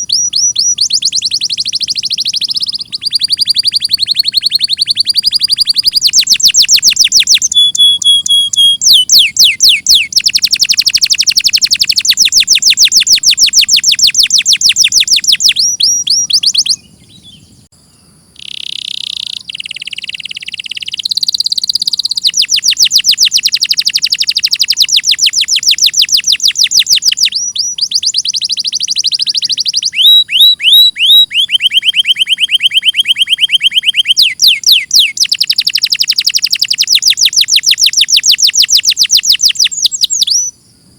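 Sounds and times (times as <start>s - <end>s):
buzzy bird phrase: 0.0s - 17.7s, 18.3s - 40.6s
canary singing trills: 0.0s - 40.6s.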